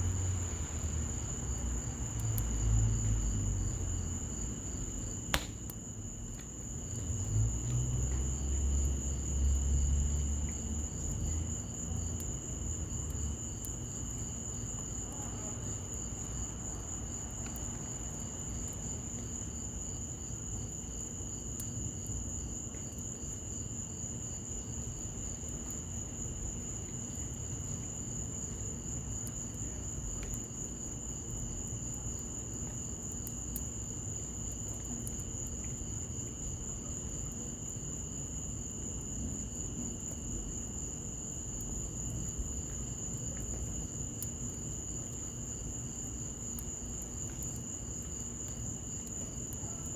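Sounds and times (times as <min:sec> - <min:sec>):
crickets trilling: 0:00.0 - 0:49.9
wood fire crackling: 0:00.0 - 0:49.9.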